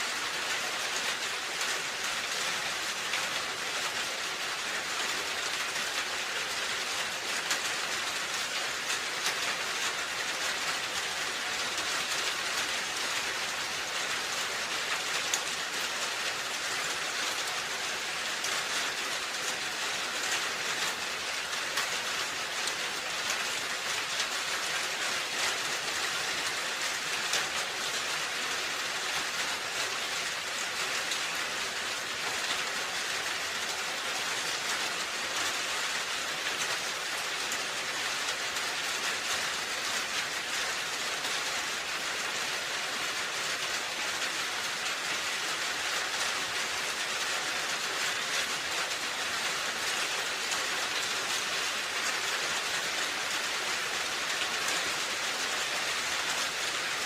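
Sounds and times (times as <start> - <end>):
rain falling on a roof: 0.0 - 57.0.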